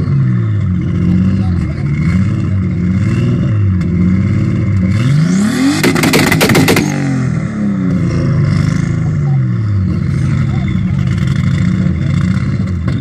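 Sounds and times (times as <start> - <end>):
car engine revving: 0.0 - 13.0
engine crackling: 0.0 - 13.0.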